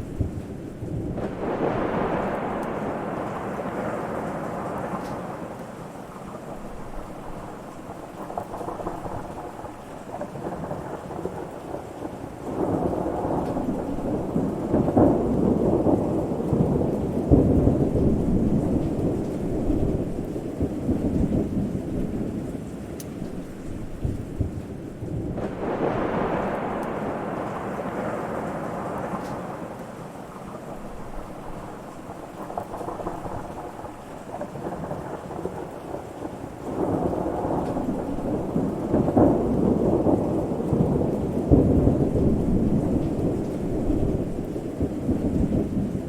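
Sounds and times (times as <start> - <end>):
rain: 0.0 - 46.0
thunder rumbling: 0.0 - 46.0.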